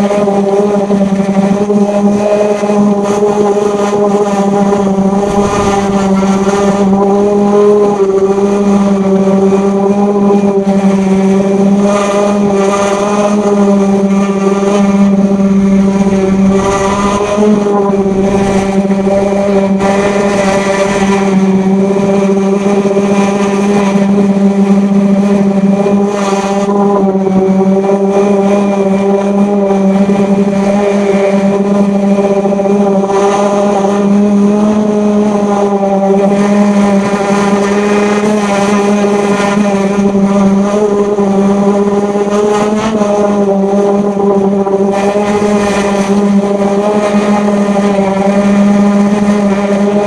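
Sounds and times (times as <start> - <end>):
power sander running: 0.0 - 50.0.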